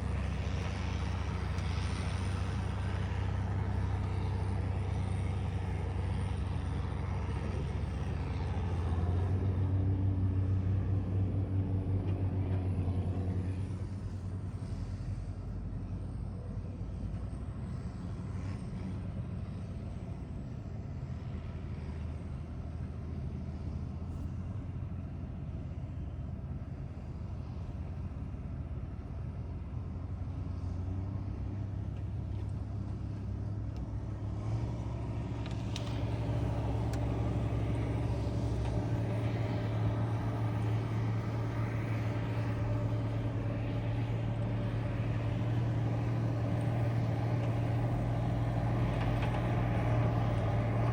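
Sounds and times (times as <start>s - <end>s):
diesel engine humming: 0.0s - 50.9s.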